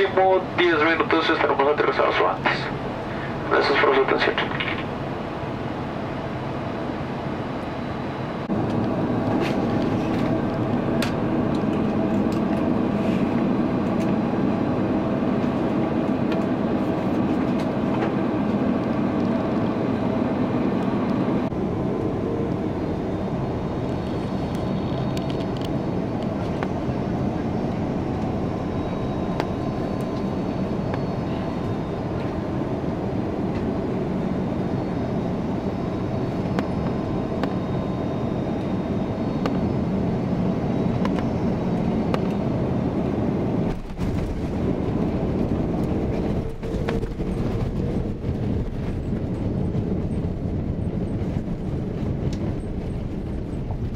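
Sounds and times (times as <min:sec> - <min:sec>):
jet engine roar in cabin: 0:00.0 - 0:53.9.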